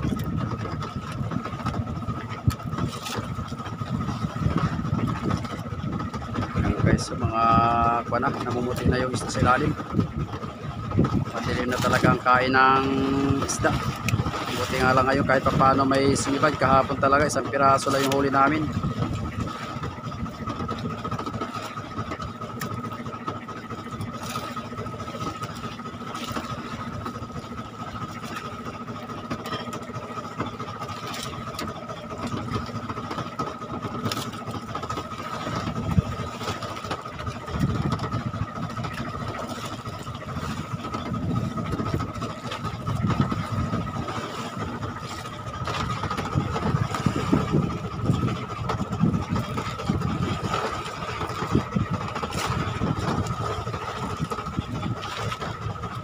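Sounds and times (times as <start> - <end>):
small engine idling with whine: 0.0 - 56.0.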